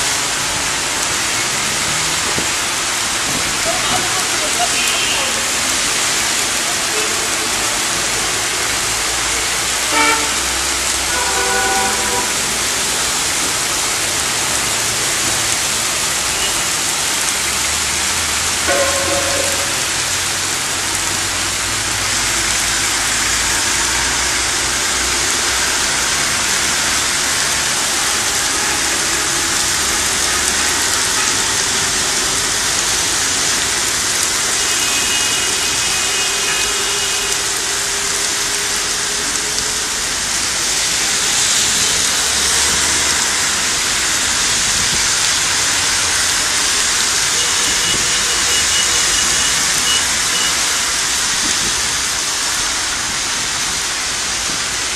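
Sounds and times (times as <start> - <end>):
heavy rain on road: 0.0 - 54.9
tyres swishing through water: 0.0 - 54.9.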